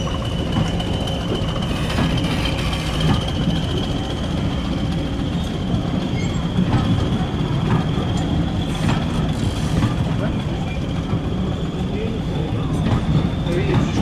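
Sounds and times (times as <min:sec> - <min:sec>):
train engine rumble: 0:00.0 - 0:14.0.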